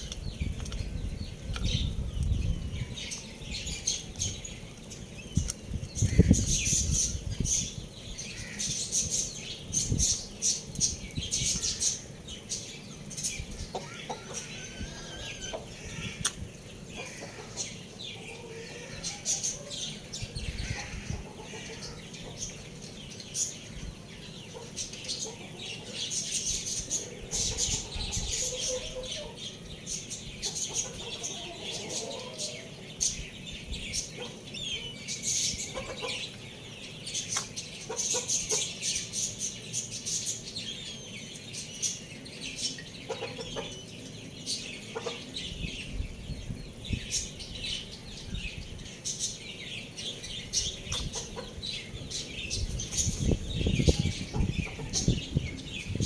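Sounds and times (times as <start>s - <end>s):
roosters clucking: 0.0s - 48.2s, 48.8s - 56.0s
small birds chirping: 0.0s - 56.0s.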